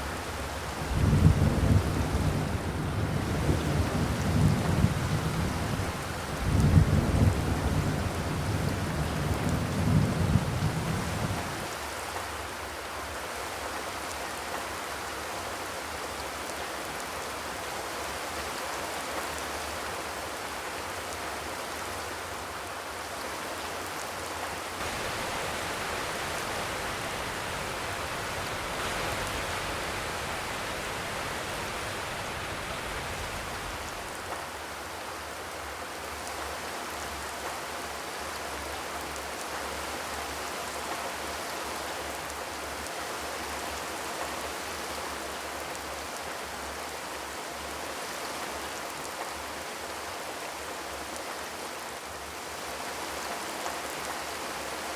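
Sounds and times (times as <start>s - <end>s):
rain on a metal roof: 0.0s - 54.9s.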